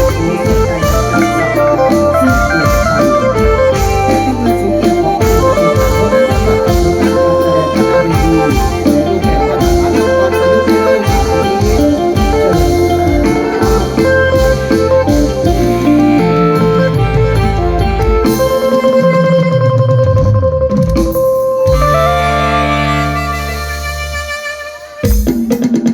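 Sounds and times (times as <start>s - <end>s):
heavy bass line: 0.0s - 18.7s, 19.8s - 25.0s
reedy organ-like lead melody: 0.0s - 19.5s, 21.6s - 25.1s
steady drum beat: 0.0s - 25.9s.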